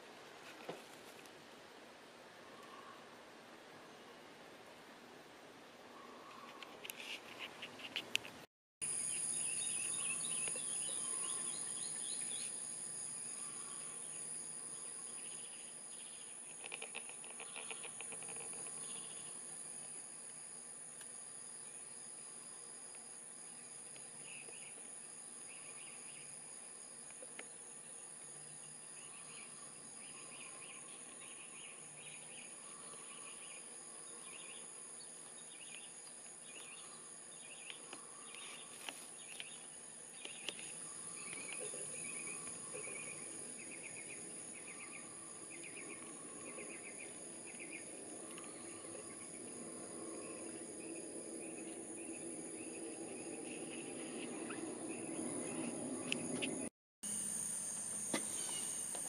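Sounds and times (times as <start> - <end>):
insects high-pitched whine: 0.0 - 59.0
insects pulsed chirps: 8.8 - 59.0.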